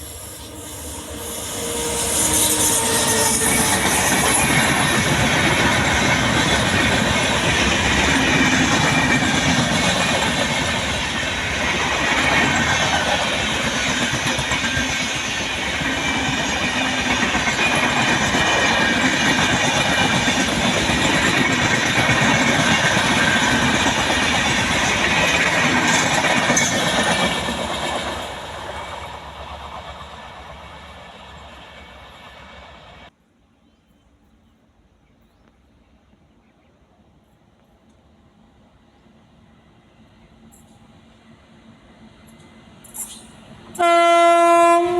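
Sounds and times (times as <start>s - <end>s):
train coaches rattling over rails: 0.0s - 33.1s, 40.2s - 44.9s.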